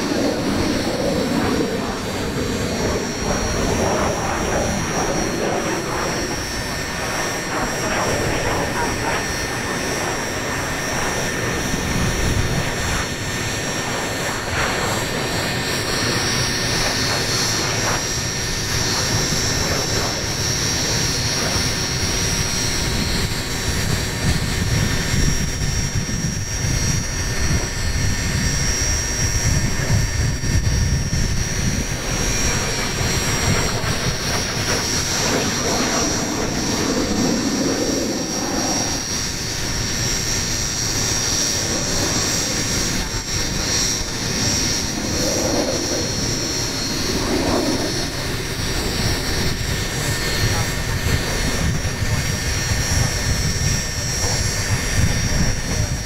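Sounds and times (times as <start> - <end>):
high turbine whine: 0.0 - 56.0
jet roar: 0.0 - 56.0.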